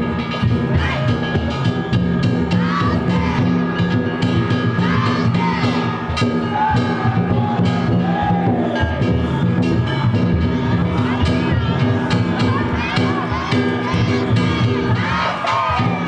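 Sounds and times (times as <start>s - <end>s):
bells ringing: 0.0s - 16.0s
drum beating: 0.0s - 16.0s
voices chanting and shouting: 0.0s - 16.0s.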